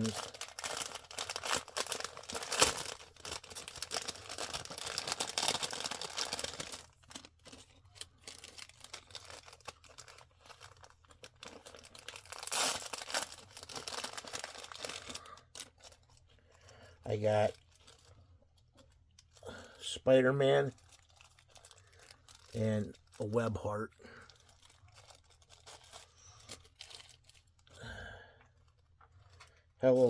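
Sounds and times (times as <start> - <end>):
plastic packaging crinkling: 0.0 - 27.8.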